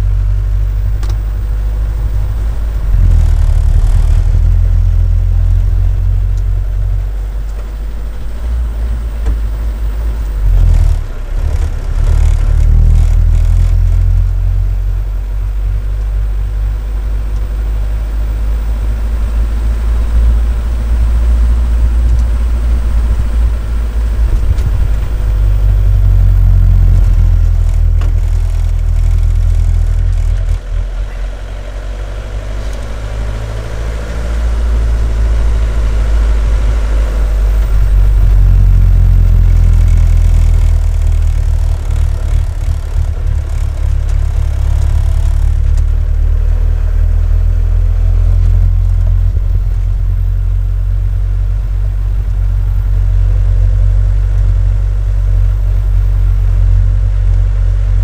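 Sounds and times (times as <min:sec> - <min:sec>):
diesel van engine droning: 0:00.0 - 0:58.0.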